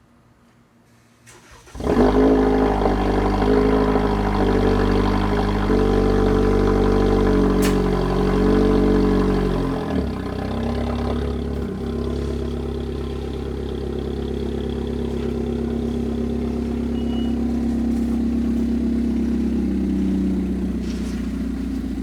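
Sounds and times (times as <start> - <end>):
car engine cranking and idling: 1.3 - 22.0.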